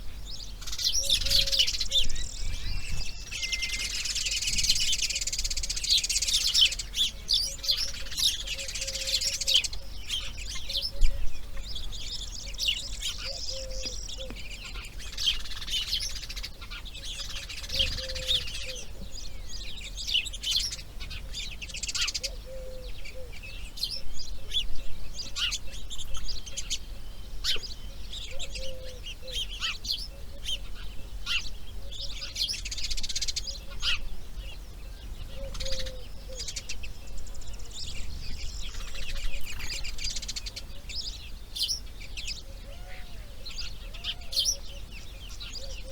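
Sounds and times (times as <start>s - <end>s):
wild birds chirping: 0.0s - 45.9s.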